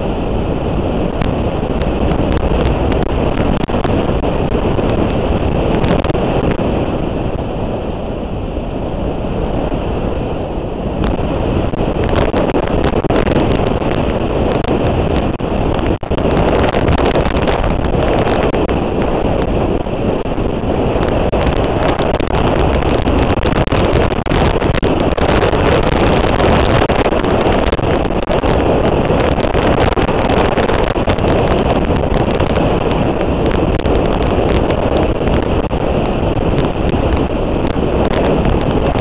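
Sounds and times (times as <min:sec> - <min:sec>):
road noise: 0:00.0 - 0:39.0
wind noise on microphone: 0:00.0 - 0:39.0.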